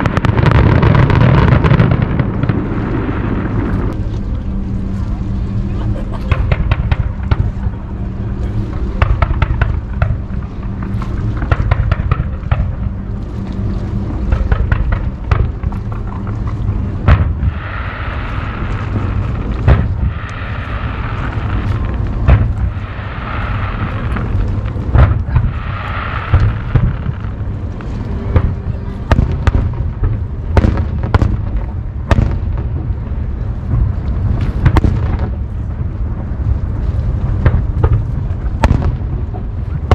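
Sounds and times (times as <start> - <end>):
fireworks bangs: 0.0 - 4.0, 6.1 - 39.9
fireworks fizz hissing: 0.0 - 39.9.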